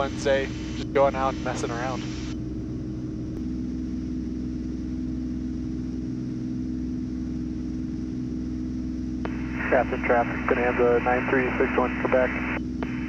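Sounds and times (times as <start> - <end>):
airplane engine drone in cabin: 0.0 - 13.0.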